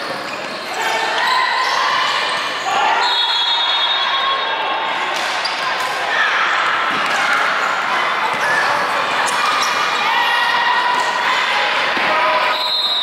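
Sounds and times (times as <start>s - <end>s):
players' voices: 0.0s - 13.0s.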